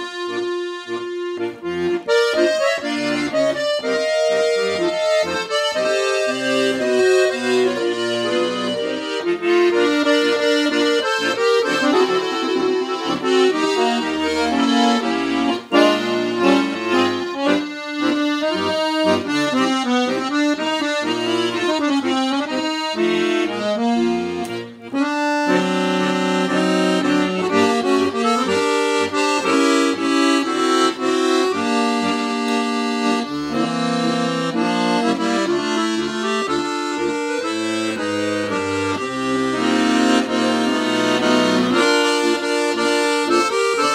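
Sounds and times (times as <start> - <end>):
piano accordion slow melody: 0.0 - 43.9.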